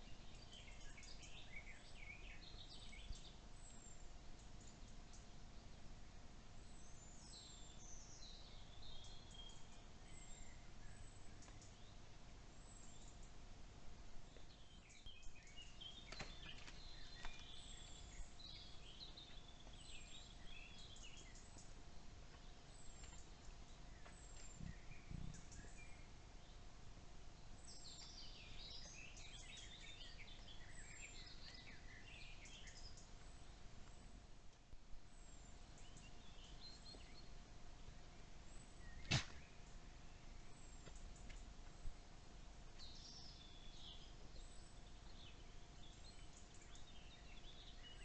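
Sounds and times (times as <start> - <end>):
faint steady hum: 0.0 - 48.0
warbling birdsong: 0.0 - 48.0.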